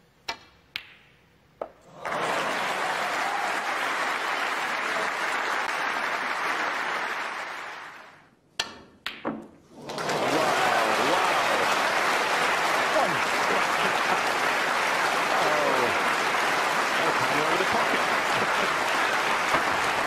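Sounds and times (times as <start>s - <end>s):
audience applauding: 1.9s - 8.3s, 9.7s - 20.0s.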